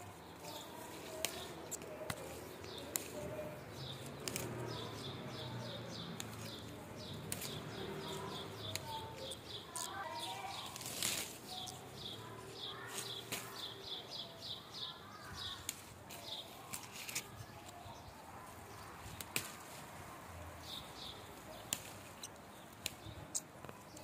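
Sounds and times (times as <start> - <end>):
leafy branches rustling: 0.0 - 24.0.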